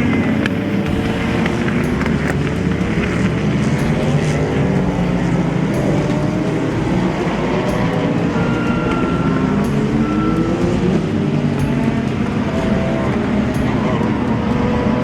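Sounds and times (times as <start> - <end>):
race cars accelerating: 0.0 - 15.0.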